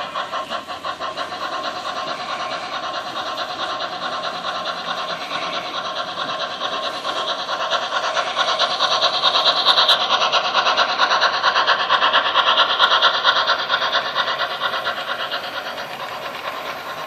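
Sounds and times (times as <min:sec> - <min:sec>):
model train steam chuffs: 0:00.0 - 0:17.0.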